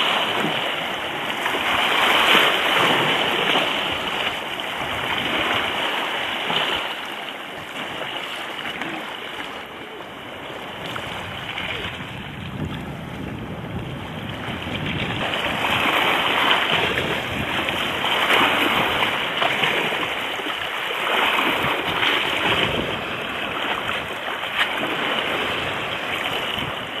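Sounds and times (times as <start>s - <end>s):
sea water washing: 0.0s - 27.0s
wind on microphone: 0.0s - 27.0s.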